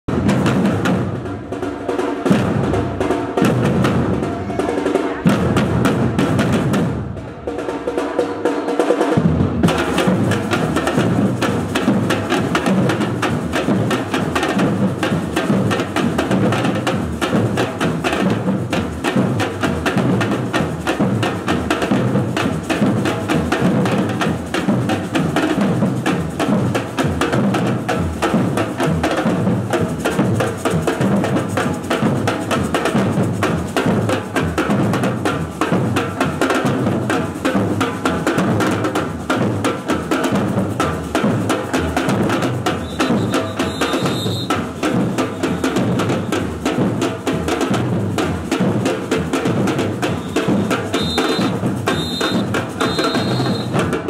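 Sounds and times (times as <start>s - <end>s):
samba drum group: 0.0s - 54.0s.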